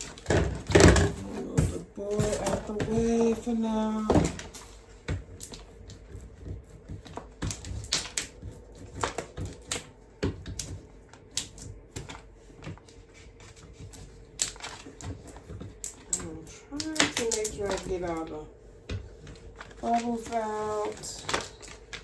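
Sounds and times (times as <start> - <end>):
paper and craft tools clicking: 2.1 - 22.0.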